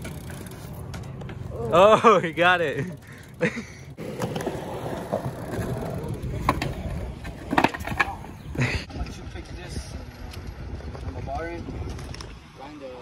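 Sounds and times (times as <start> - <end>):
bike tyres rumbling on concrete: 0.0 - 12.4.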